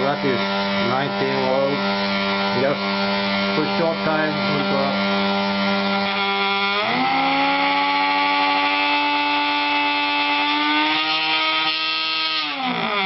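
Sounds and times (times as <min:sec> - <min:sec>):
electric pump motor whining: 0:00.0 - 0:13.0.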